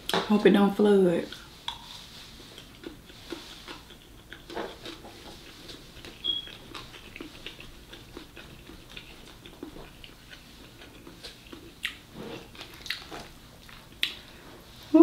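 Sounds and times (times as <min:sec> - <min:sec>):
close chewing: 0:01.3 - 0:14.4.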